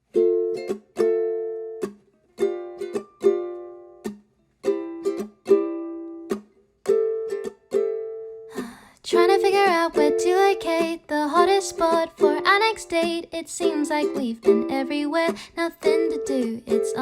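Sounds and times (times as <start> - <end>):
strummed ukulele chords: 0.0 - 17.0.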